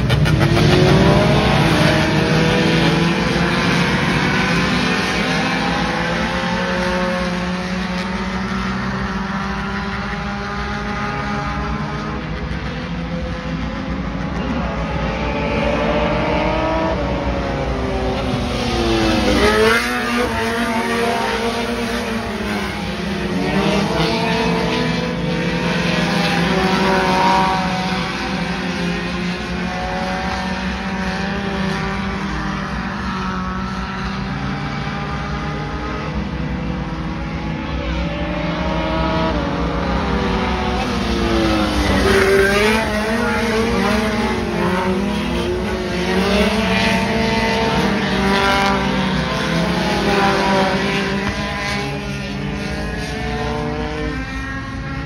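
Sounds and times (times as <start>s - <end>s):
race car engines revving: 0.0s - 55.0s
race cars passing by: 0.0s - 55.0s.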